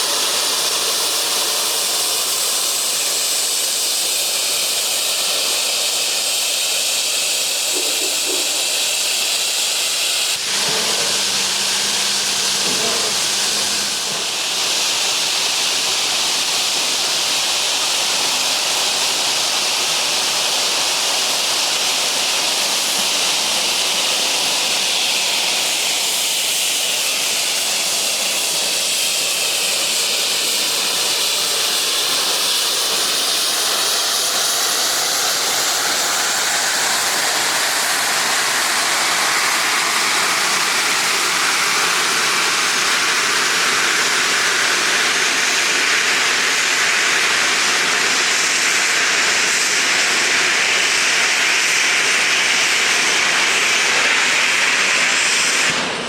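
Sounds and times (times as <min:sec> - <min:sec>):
steam hissing from locomotive: 0:00.0 - 0:56.0.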